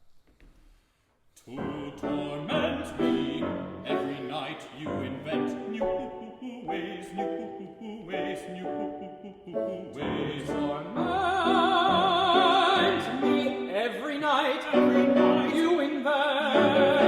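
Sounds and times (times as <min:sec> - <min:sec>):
vocal ensemble singing operatically: 0:01.4 - 0:17.0
piano accompaniment: 0:01.6 - 0:17.0.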